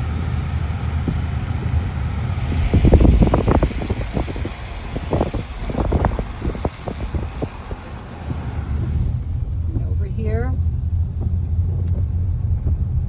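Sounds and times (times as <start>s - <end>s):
car road rumble: 0.0s - 13.0s
short thumps and buffets: 0.0s - 13.0s
wind noise: 0.0s - 13.0s.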